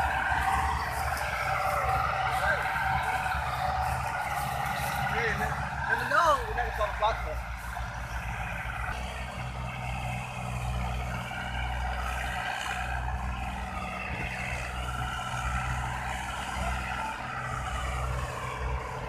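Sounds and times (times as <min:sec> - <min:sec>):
diesel tractor engines under load: 0:00.0 - 0:19.0.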